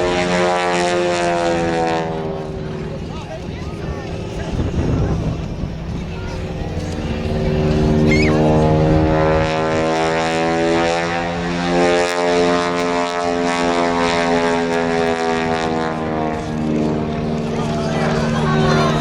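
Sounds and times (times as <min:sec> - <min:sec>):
propeller airplane droning: 0:00.0 - 0:19.0.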